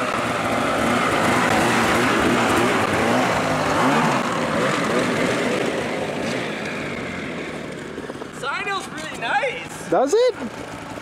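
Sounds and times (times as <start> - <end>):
snowmobile engine revving: 0.0 - 11.0
track spinning up snow: 0.0 - 11.0.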